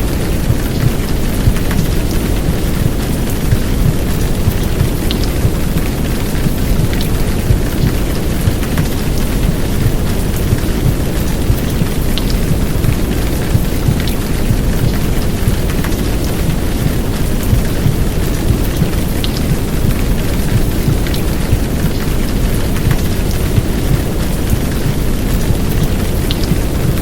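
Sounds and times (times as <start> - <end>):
faint raindrop ticks: 0.0 - 27.0
heavy rain downpour: 0.0 - 27.0
muffled heartbeat rumble: 0.0 - 27.0
white noise: 0.0 - 27.0.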